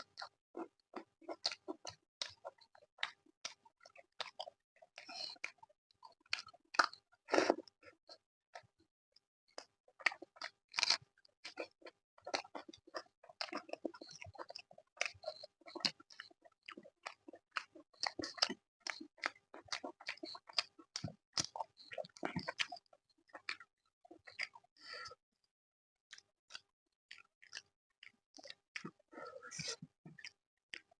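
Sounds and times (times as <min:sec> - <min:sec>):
person chewing food: 0:00.0 - 0:08.7, 0:09.5 - 0:25.2, 0:26.1 - 0:30.9.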